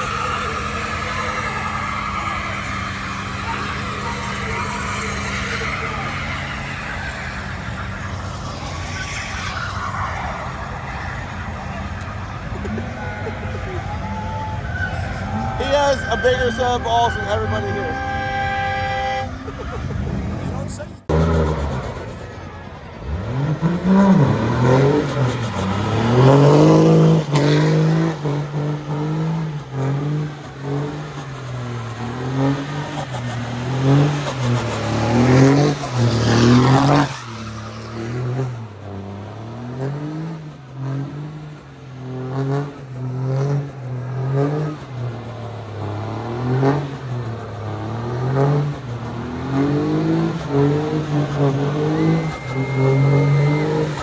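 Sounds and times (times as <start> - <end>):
vehicle engine revving: 0.0 - 54.0.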